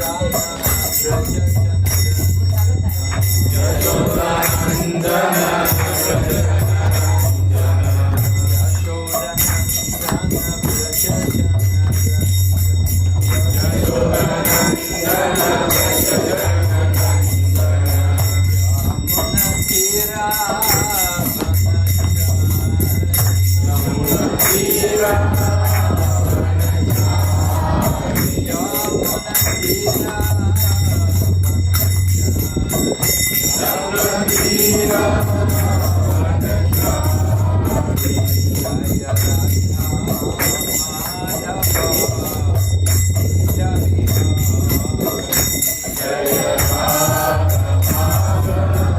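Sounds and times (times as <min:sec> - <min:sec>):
small hand cymbals jingling: 0:00.0 - 0:48.9
voices singing devotional song: 0:00.0 - 0:48.9.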